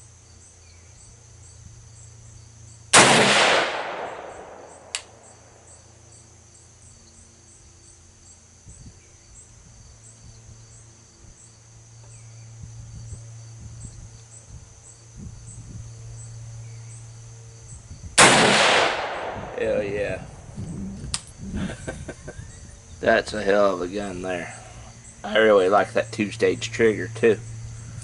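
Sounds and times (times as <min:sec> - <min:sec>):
insect chirping: 0:00.0 - 0:28.0
steady low hum: 0:00.0 - 0:28.0.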